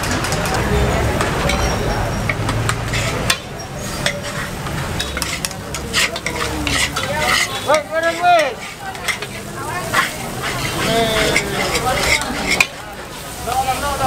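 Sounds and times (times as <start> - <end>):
frying sizzle: 0.0 - 14.0
spatula scraping a wok: 0.2 - 13.4.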